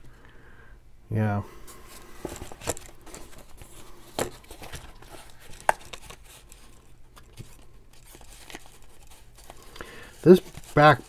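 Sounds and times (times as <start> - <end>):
paper rustling: 1.7 - 11.0.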